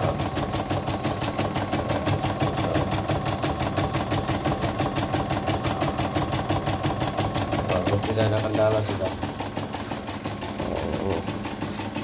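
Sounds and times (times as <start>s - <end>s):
embroidery machine clattering: 0.0s - 12.0s.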